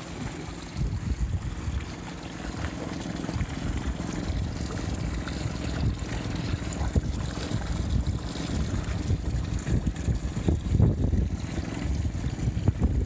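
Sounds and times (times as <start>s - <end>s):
outboard motor idling: 0.0s - 13.0s
water stream trickling: 0.0s - 13.0s.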